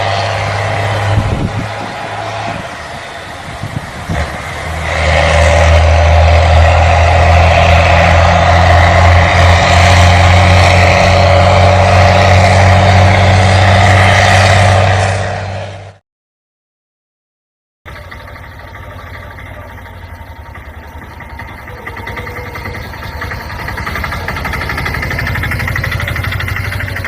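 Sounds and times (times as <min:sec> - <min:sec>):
vehicle engine droning: 0:00.0 - 0:16.0, 0:17.9 - 0:27.0.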